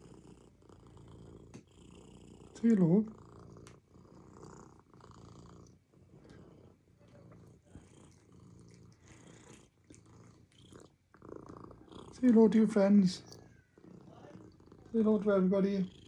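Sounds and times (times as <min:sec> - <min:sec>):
cat purring faintly: 0:00.0 - 0:16.0.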